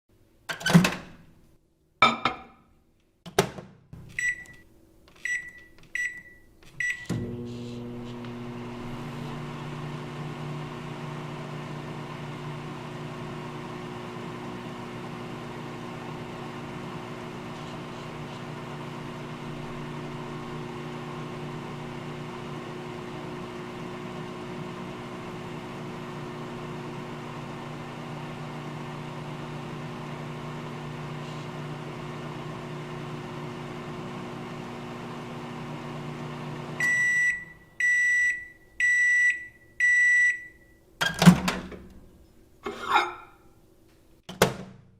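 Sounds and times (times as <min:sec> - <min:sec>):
microwave oven humming: 0:05.4 - 0:42.0.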